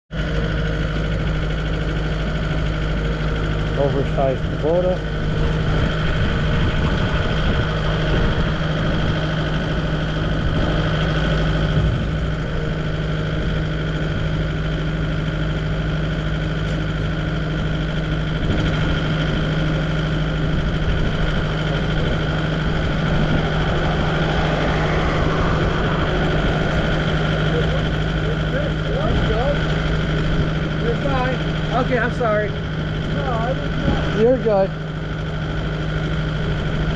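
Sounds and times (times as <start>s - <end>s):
engine idling: 0.1s - 36.9s.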